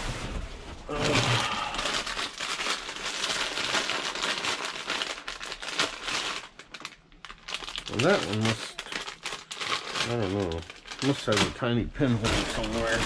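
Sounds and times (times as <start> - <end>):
foil snack bags crinkling: 0.8 - 13.0.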